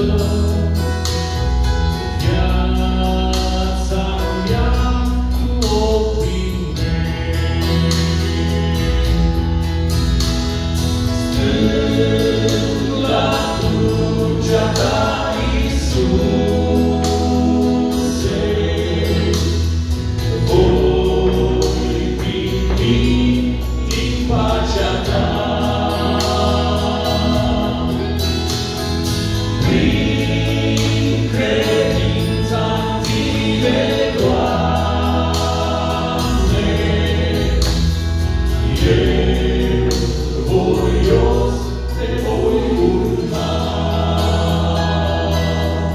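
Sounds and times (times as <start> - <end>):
male quartet singing in harmony: 0.0 - 45.9.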